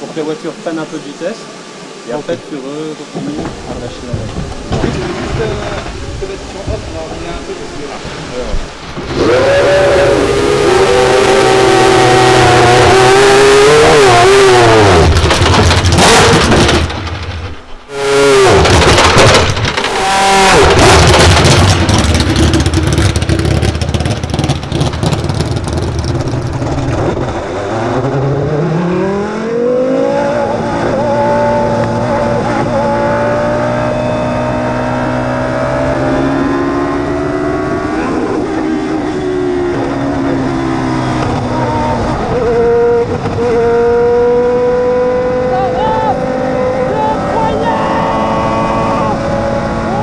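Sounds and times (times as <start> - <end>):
racing car engine revving: 3.4 - 50.0.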